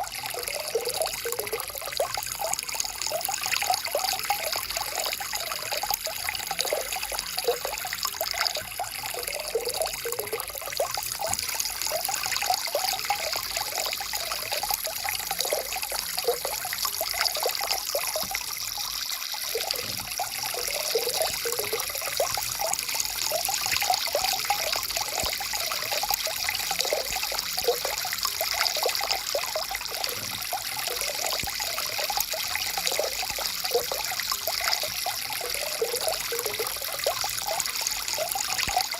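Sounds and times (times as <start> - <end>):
stream water bubbling: 0.0 - 38.9.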